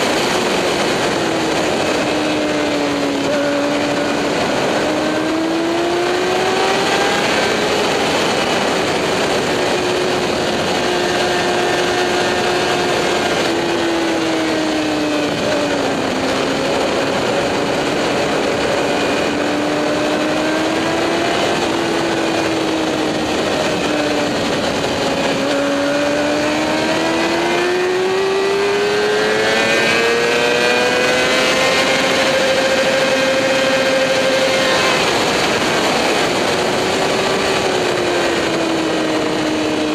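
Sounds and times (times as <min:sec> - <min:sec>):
constant rushing noise: 0:00.0 - 0:39.9
motorcycle engine at speed: 0:00.0 - 0:39.9.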